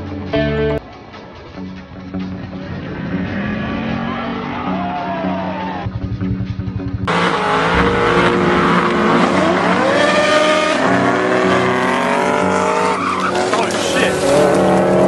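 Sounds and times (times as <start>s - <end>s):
sports car engine accelerating: 2.3s - 15.0s.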